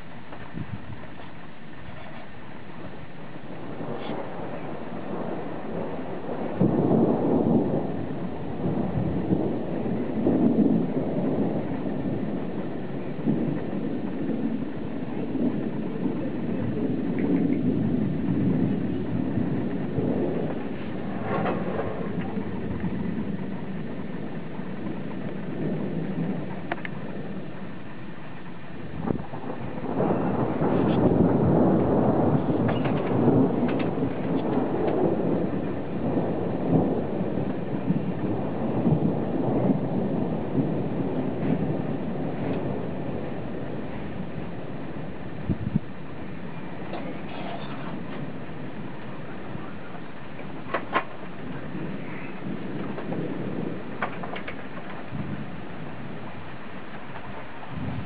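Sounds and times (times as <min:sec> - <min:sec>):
rain: 0:00.0 - 0:58.0
rolling thunder rumble: 0:00.0 - 0:58.0.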